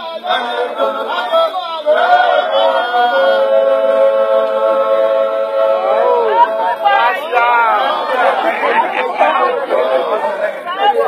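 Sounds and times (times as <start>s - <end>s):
group singing without instruments: 0.0s - 11.0s.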